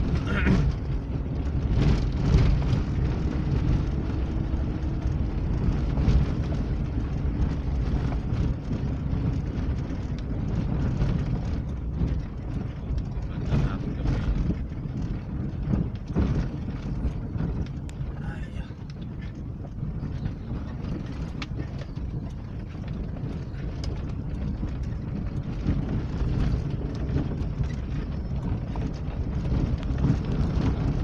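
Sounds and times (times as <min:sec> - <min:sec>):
knocks and rattles from bumps: 0:00.0 - 0:31.0
vehicle engine and tyre noise: 0:00.0 - 0:31.0.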